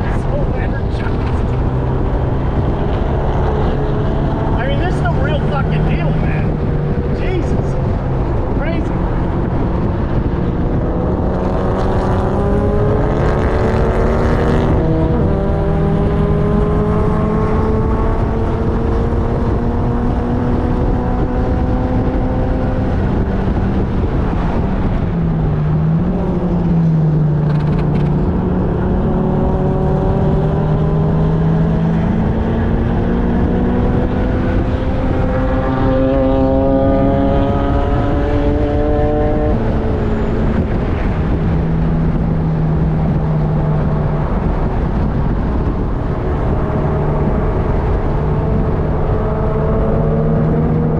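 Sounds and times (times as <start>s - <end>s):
race car engine revving: 0.0s - 50.9s
wind and road noise: 0.0s - 50.9s.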